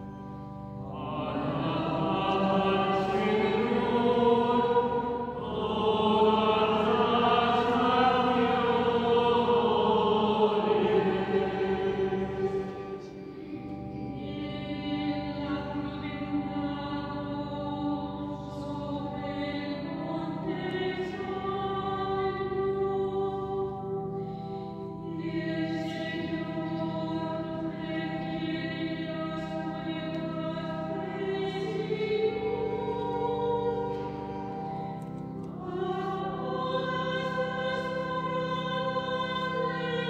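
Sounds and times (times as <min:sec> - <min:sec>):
liturgical chant in church: 0:00.0 - 0:40.0.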